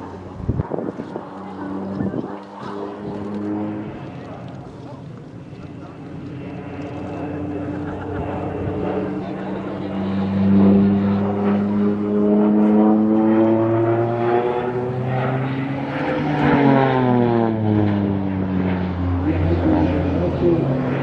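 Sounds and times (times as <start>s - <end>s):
propeller aircraft flying overhead: 0.0s - 21.0s.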